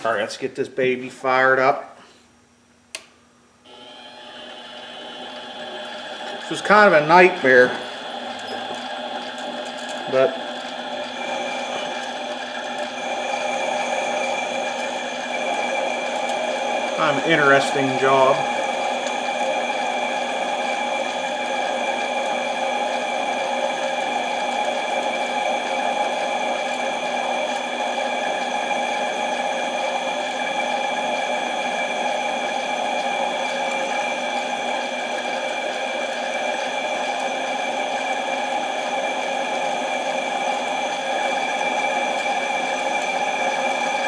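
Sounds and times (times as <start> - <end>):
lathe motor whining: 3.7 - 44.0.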